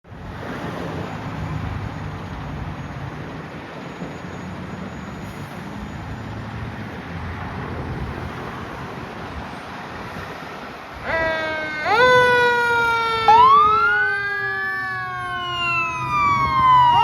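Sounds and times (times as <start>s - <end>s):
road noise: 0.0s - 17.0s
diesel engine rumbling: 0.1s - 17.0s.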